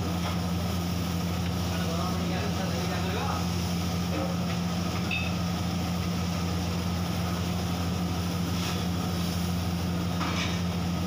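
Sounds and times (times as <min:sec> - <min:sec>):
gas wok burner roaring: 0:00.0 - 0:11.0
sauce bubbling in a wok: 0:00.0 - 0:11.0.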